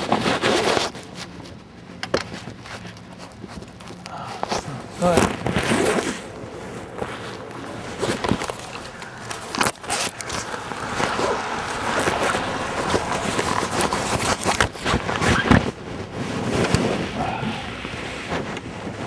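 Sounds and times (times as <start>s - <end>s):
knocks and crackles: 0.0s - 19.0s.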